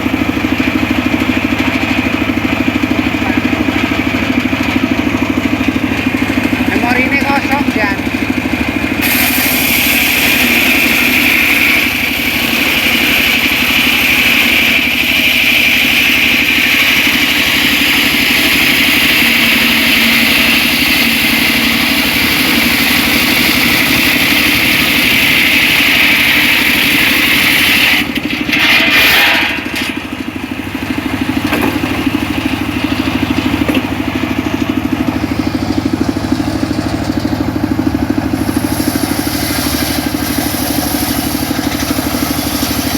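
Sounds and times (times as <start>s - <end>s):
circular saw droning: 0.7s - 28.2s, 28.9s - 42.9s.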